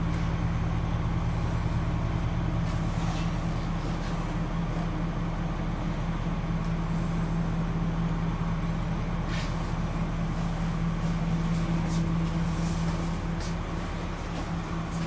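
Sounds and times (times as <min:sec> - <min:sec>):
bus diesel engine idling: 0:00.0 - 0:15.0.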